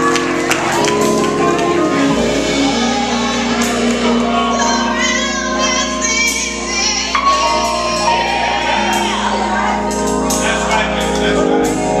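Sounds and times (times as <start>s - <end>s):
held organ notes: 0.0s - 12.0s
keyboard and drum kit: 0.0s - 12.0s
youth choir singing: 0.0s - 12.0s.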